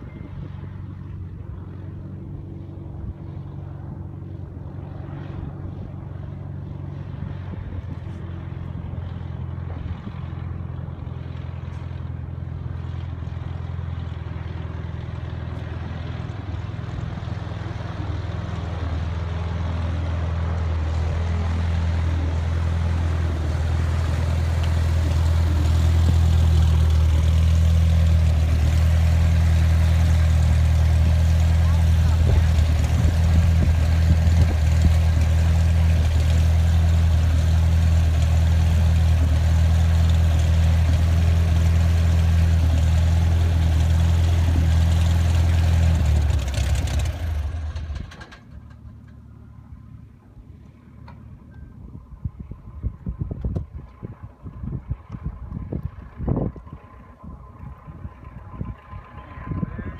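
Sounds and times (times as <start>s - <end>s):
propeller plane engine taxiing: 0.0s - 59.9s.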